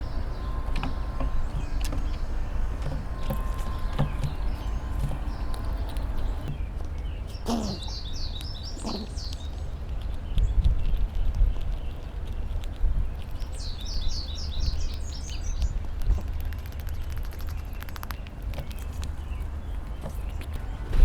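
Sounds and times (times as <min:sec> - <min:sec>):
bird chirping: 0:00.0 - 0:12.1, 0:13.1 - 0:21.0
low outdoor rumble: 0:00.0 - 0:21.0.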